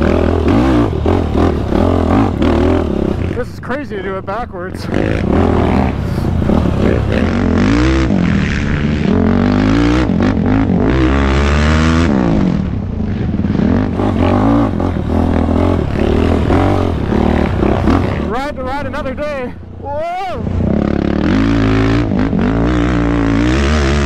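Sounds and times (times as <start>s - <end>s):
quad engine revving: 0.0s - 3.8s, 4.7s - 19.3s, 20.4s - 24.0s.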